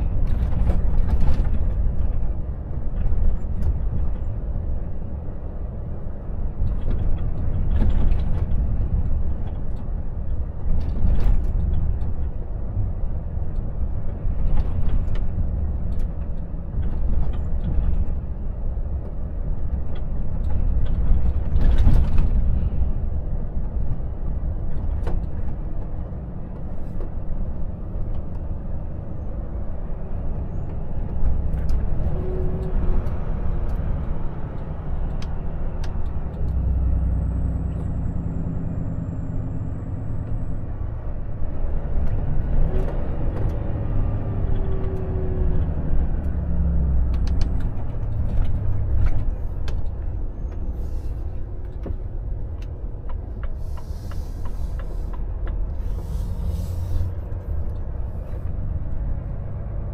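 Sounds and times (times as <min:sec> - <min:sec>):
road rumble: 0:00.0 - 0:59.9
truck diesel engine: 0:00.0 - 0:59.9.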